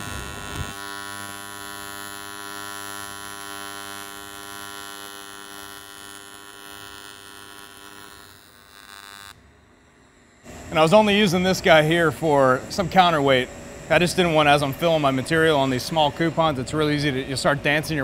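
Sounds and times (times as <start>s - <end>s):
welding arc buzzing: 0.0s - 18.0s.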